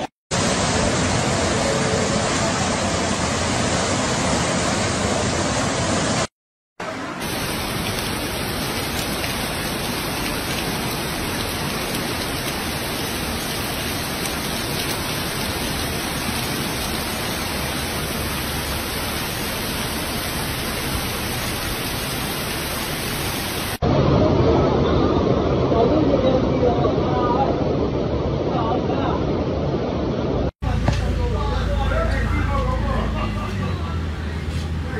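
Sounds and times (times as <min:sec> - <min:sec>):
heavy rain falling: 0:00.0 - 0:25.6, 0:30.6 - 0:34.9.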